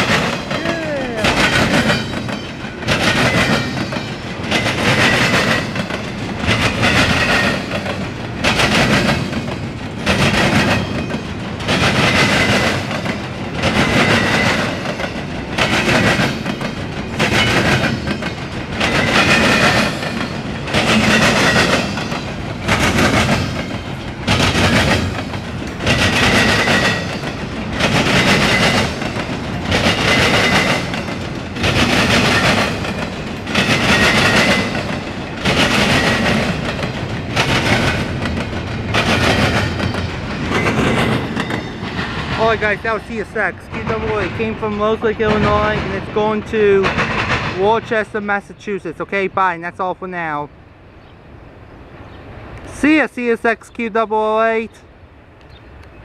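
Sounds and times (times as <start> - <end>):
freight train wheels clacking: 0.0 - 49.0.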